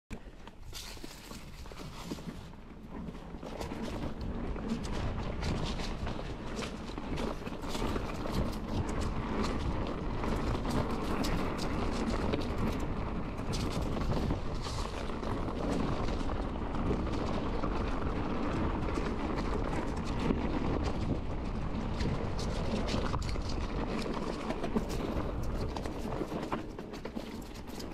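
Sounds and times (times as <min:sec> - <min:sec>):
bike tyre rumble on dirt: 0:00.1 - 0:27.9
crackles of dry leaves: 0:00.2 - 0:27.9.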